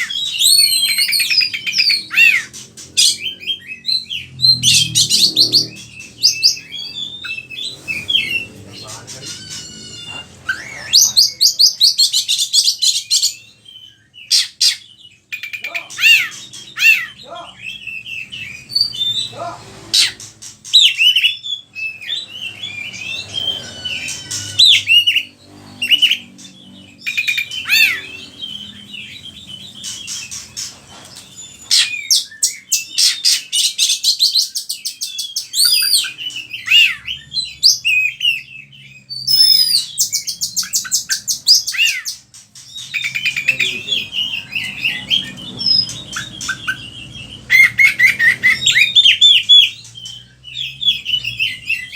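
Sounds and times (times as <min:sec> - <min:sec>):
bird singing varied phrases: 0:00.0 - 0:51.9.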